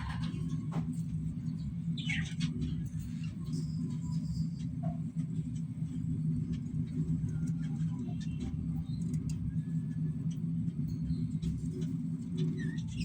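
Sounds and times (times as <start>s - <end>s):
low mechanical hum: 0.0s - 13.0s
parrots chirping and squeaking: 0.0s - 13.0s.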